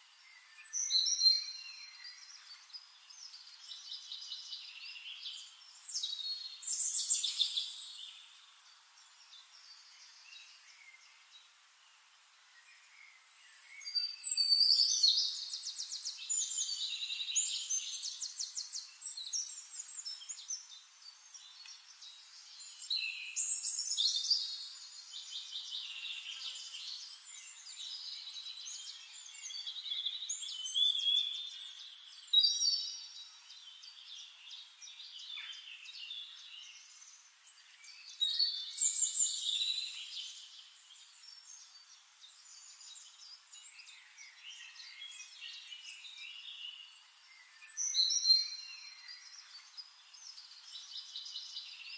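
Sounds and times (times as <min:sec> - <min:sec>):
songbirds trilling and chirping: 0:00.0 - 0:51.9.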